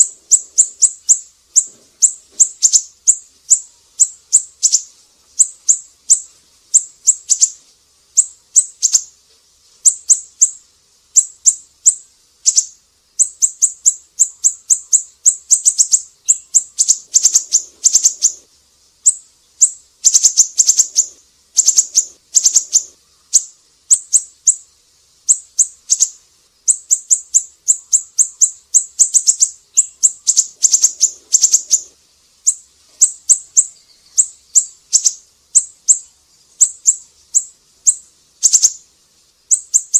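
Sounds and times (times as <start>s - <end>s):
bird calling in high chips: 0.0s - 7.6s, 8.2s - 9.2s, 9.8s - 24.6s, 25.2s - 38.9s, 39.5s - 39.9s.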